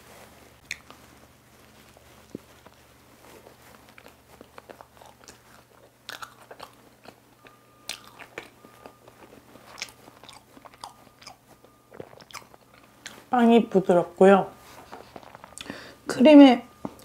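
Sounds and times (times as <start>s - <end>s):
person chewing soft cake: 0.1s - 13.4s, 14.6s - 16.0s, 16.7s - 17.0s.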